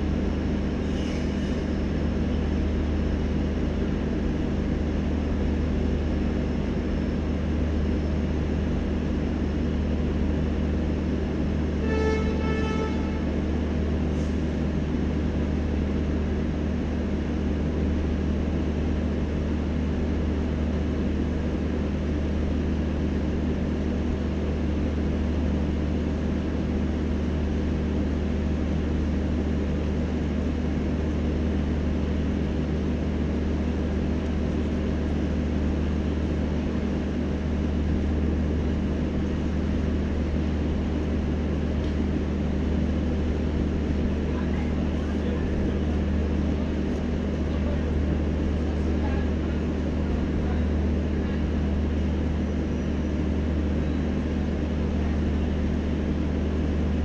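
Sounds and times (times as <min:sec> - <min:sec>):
diesel generator drone: 0:00.0 - 0:57.0.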